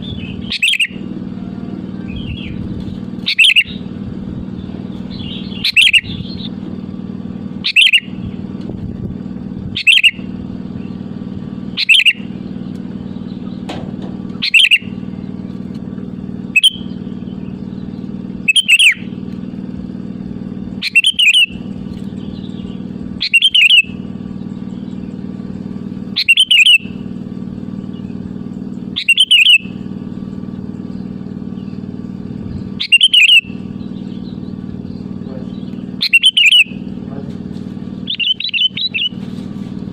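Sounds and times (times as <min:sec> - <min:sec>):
bulbul calling: 0:00.0 - 0:06.8, 0:07.6 - 0:08.5, 0:09.7 - 0:19.4, 0:20.3 - 0:39.3
steady low hum: 0:00.0 - 0:39.9.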